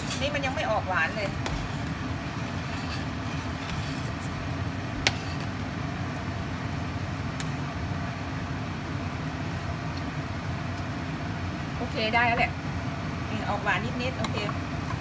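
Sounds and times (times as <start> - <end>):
gravy boiling in a saucepan: 0.0 - 15.0.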